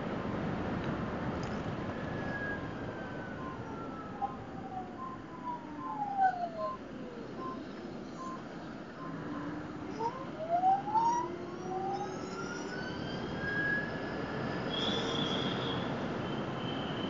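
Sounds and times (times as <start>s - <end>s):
wind and road noise: 0.0s - 17.0s
electric scooter motor whine: 1.4s - 17.0s.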